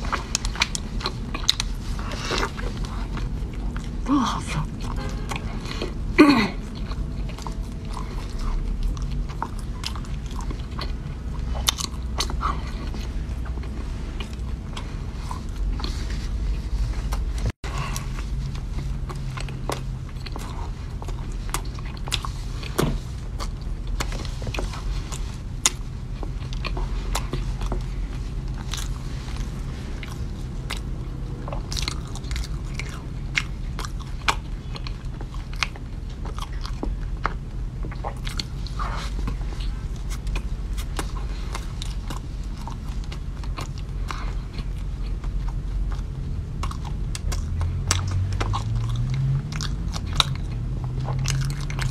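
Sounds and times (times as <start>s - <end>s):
low hum: 0.0s - 51.9s
person chewing pastry: 0.0s - 51.9s.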